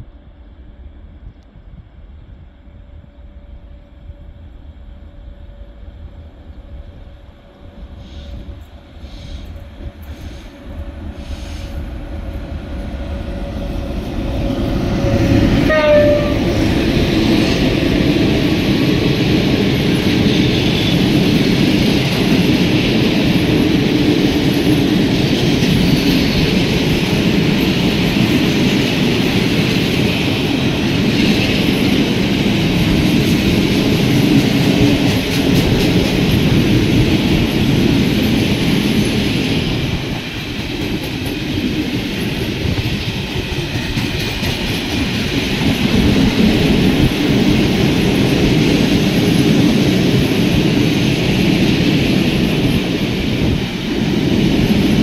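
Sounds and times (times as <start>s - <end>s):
electric locomotive whine: 0.0s - 55.0s
train wheels on rails clickety-clack: 6.0s - 55.0s.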